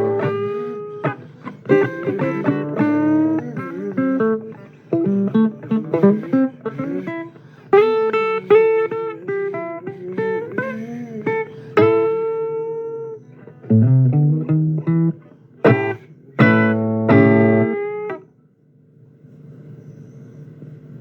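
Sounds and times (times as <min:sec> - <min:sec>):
blues guitar chords: 0:00.0 - 0:18.3.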